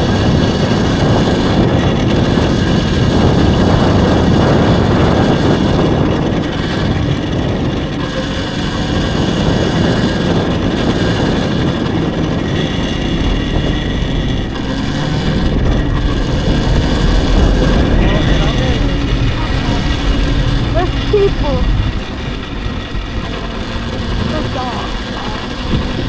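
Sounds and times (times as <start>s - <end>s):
electric dirt bike running: 0.0s - 26.0s
wind rush over microphone: 0.0s - 26.0s.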